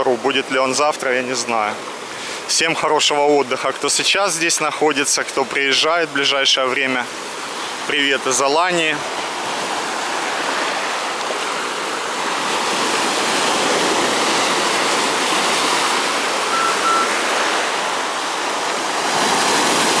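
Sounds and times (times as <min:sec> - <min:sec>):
waves breaking over rocks: 0:00.1 - 0:20.0.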